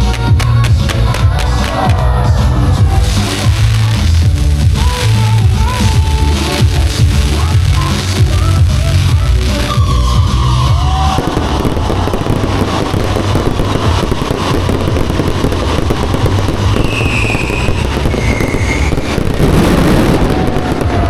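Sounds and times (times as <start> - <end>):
fireworks crackling: 0.0 - 21.0
music: 0.0 - 21.0
high firework whistles: 3.0 - 21.0.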